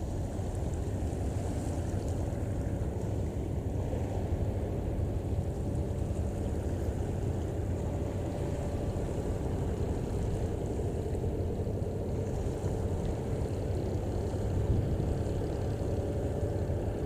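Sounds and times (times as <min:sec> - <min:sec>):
ship engine rumble: 0:00.0 - 0:17.0.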